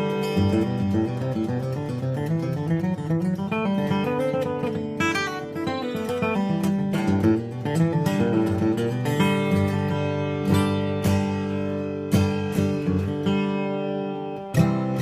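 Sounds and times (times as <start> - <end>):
acoustic guitar picked and strummed: 0.0 - 15.0.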